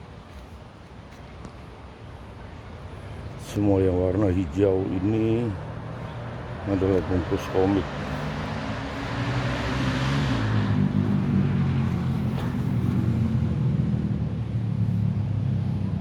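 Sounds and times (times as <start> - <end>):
engine humming: 2.8 - 16.0.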